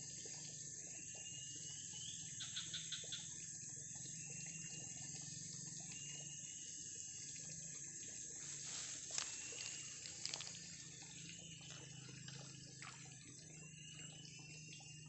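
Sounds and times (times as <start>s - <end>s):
high insect drone: 0.0s - 15.0s
stream water trickling: 0.0s - 15.0s.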